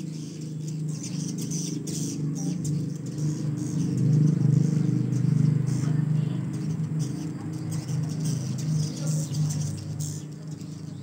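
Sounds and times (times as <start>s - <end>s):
low engine drone: 0.0s - 11.0s
swiftlets chirping: 0.0s - 11.0s.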